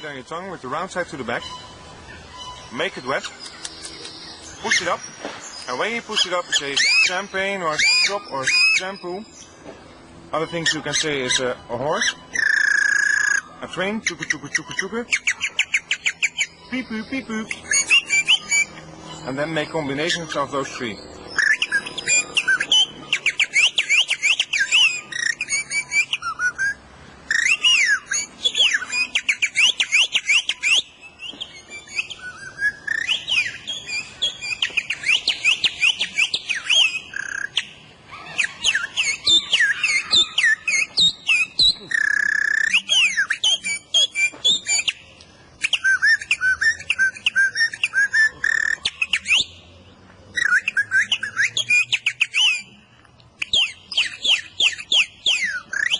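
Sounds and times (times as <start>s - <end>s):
bird-call whistle chirps and trills: 0.0s - 55.9s.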